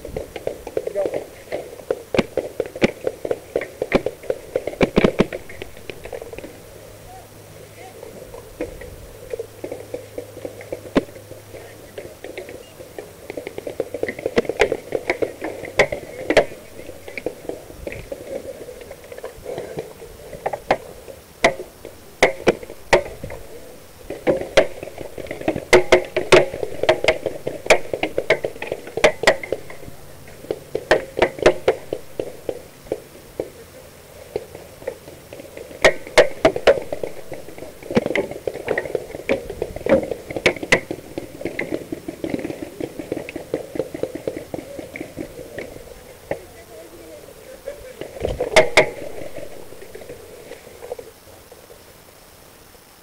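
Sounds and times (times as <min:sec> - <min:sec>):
low rustling noise: 0:00.0 - 0:53.0.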